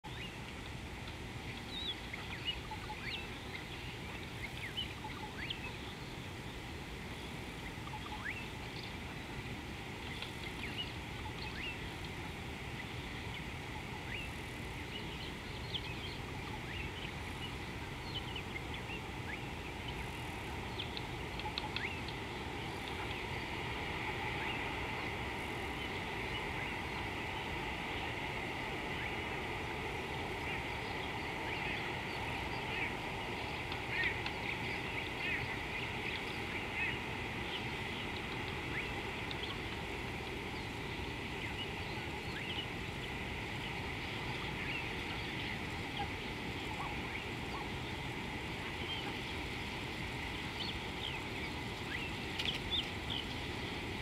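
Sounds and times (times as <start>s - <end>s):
steady low background noise: 0.0s - 54.0s.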